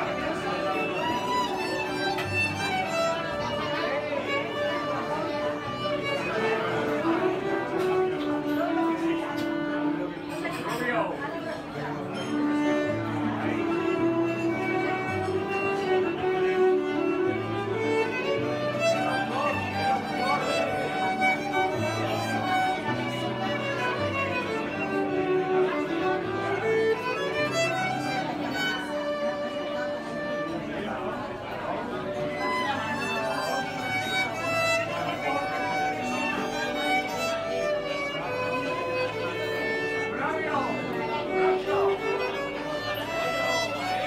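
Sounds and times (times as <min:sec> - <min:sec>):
electric violin melody: 0:00.0 - 0:10.4, 0:11.7 - 0:44.0.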